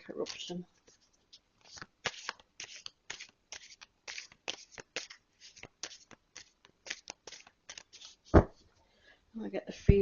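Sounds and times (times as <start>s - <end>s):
cards being shuffled: 0.2s - 8.6s.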